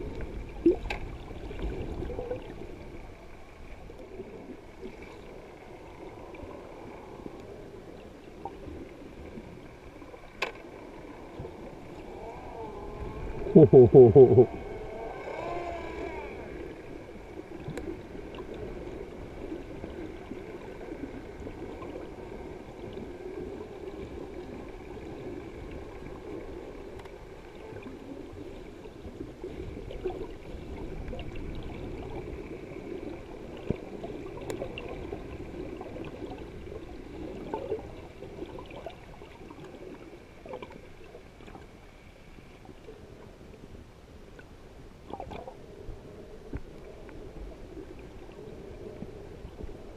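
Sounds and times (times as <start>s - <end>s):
faint constant whine: 0.0s - 49.9s
underwater rushing water: 0.0s - 49.9s.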